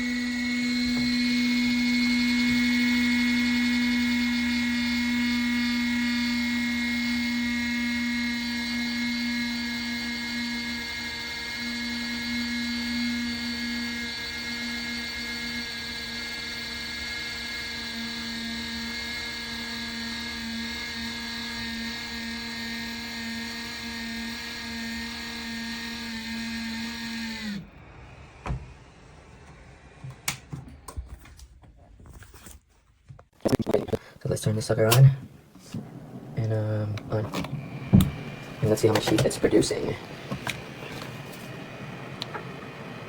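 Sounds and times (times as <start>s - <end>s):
heater fan motor whine: 0.0s - 31.0s, 34.2s - 43.0s.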